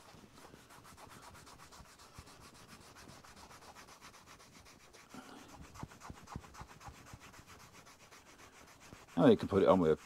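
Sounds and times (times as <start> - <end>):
cloth rubbing on metal: 0.0 - 10.0.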